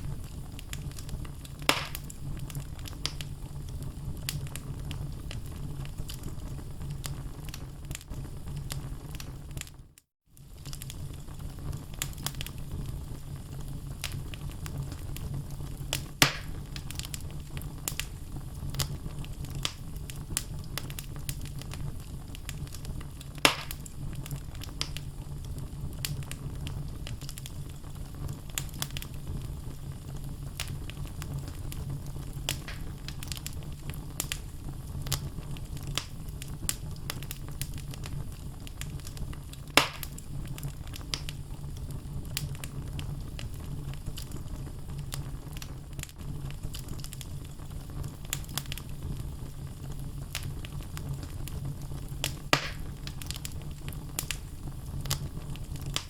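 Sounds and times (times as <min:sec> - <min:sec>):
sharp fire pops: 0:00.0 - 0:09.8, 0:10.4 - 0:56.0
logs burning with crackles: 0:00.0 - 0:56.0.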